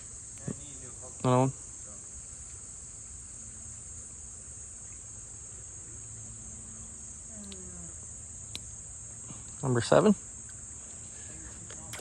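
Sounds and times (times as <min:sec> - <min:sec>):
insects calling: 0:00.0 - 0:12.0.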